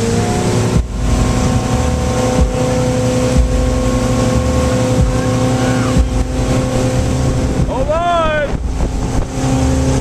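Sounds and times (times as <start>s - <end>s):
motorboat engine running: 0.0s - 10.0s
wind and water rushing: 0.0s - 10.0s
low thumps: 0.5s - 10.0s.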